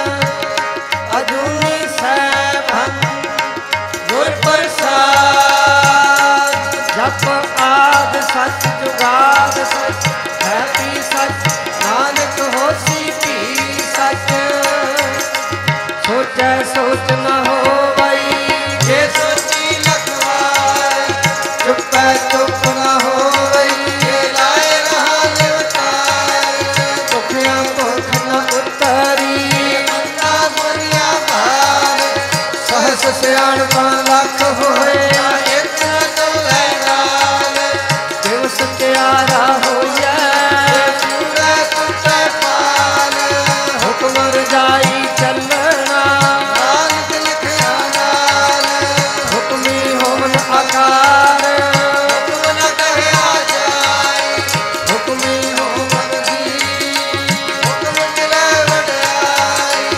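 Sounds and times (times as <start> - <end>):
harmoniums playing a melody: 0.0 - 59.9
tabla rhythm: 0.0 - 59.9.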